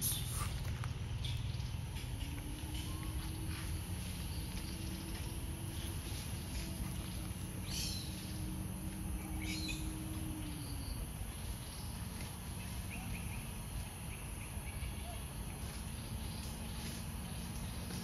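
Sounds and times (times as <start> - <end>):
faint low hum: 0.0 - 18.0
woodland background noise: 0.0 - 18.0.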